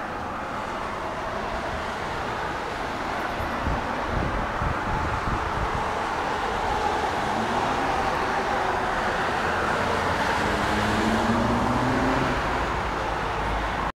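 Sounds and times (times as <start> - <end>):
vehicle engine hum: 0.0 - 13.9
road traffic noise: 0.0 - 14.0.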